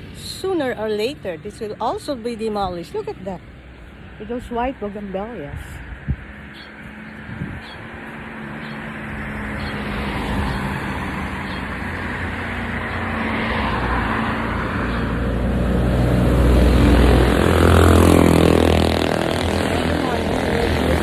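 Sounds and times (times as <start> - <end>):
vehicle engine passing by: 3.0 - 21.0.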